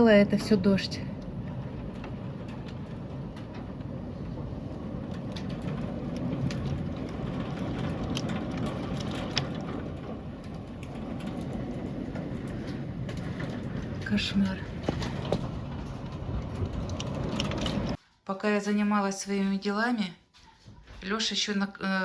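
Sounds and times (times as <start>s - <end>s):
heavy rain pouring: 0.0s - 18.0s
raindrops ticking: 0.0s - 18.0s.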